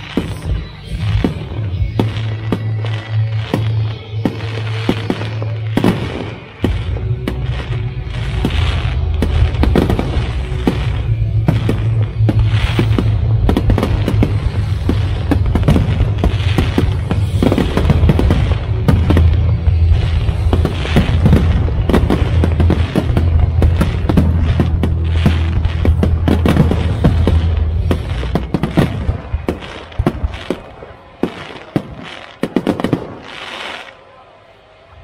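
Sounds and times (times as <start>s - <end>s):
loud music with heavy bass: 0.0s - 29.6s
fireworks bursting and crackling: 0.0s - 35.0s.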